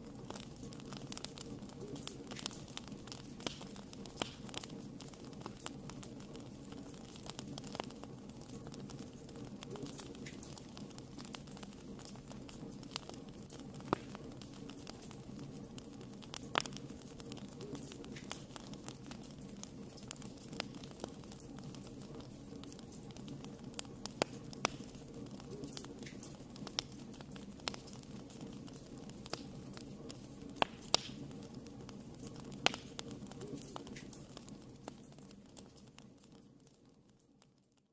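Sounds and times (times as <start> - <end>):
fire rushing in fireplace: 0.0 - 37.4
fire crackles and pops: 0.0 - 37.9.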